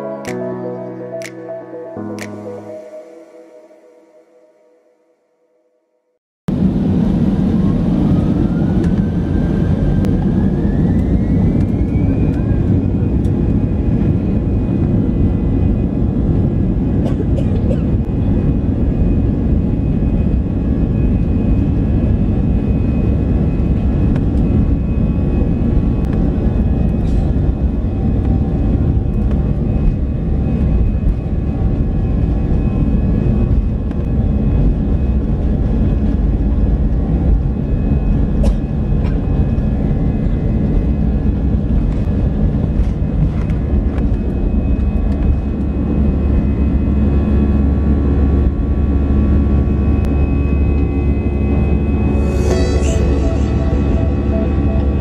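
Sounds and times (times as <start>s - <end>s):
jet engines rumbling in cabin: 6.5s - 55.0s.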